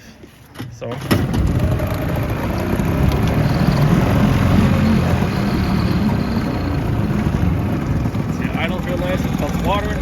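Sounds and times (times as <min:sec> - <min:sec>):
outboard motor idling: 0:01.3 - 0:10.0.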